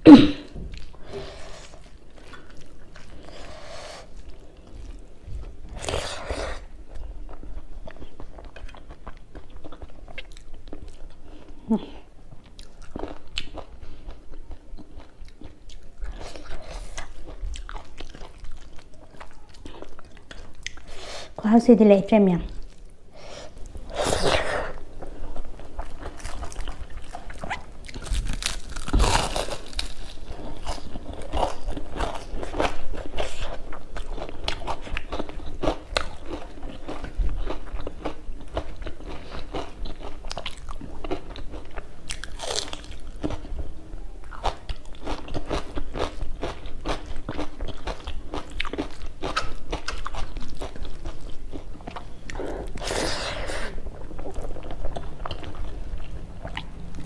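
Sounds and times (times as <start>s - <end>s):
crunching and chewing food: 0.7s - 20.9s, 22.5s - 57.0s.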